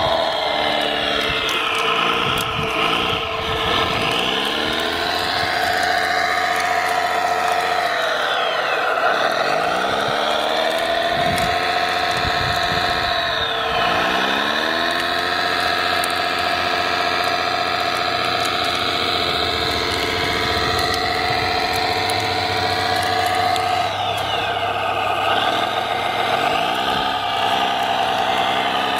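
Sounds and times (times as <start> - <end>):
model bulldozer mechanical drive: 0.0 - 28.9.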